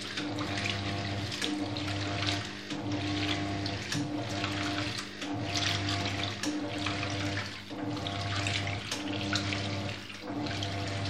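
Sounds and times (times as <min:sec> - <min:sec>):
washing machine motor hum: 0:00.0 - 0:11.0
water and clothes swishing: 0:00.0 - 0:11.0.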